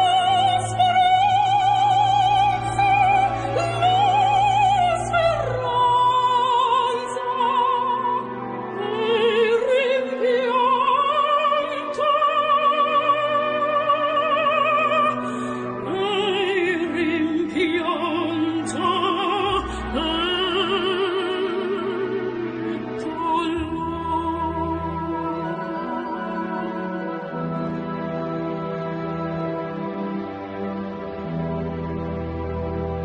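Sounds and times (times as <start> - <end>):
operatic singing with vibrato: 0.0 - 30.7.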